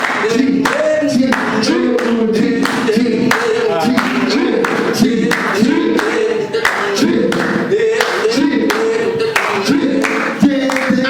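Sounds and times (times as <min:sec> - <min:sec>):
clapped beat: 0:00.0 - 0:11.0
voices singing: 0:00.0 - 0:11.0.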